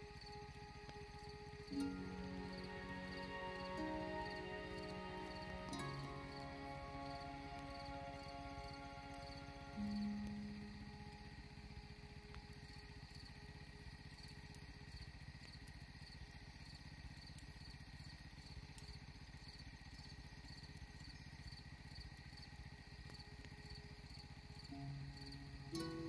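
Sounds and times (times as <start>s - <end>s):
insect chirping: 0.0s - 26.0s
low background hum: 0.0s - 26.0s.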